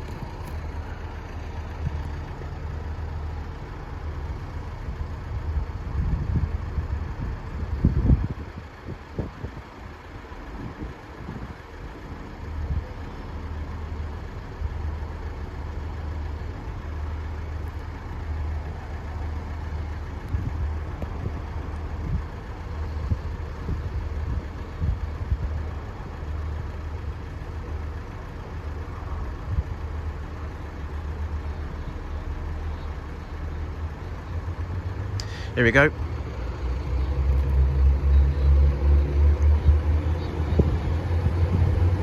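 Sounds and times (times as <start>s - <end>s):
diesel train engine idling: 0.0s - 42.0s.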